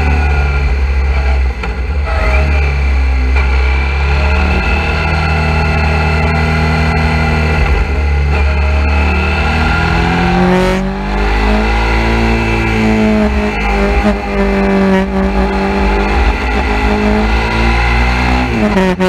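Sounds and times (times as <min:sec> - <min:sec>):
motorcycle engine under load: 0:00.0 - 0:19.0.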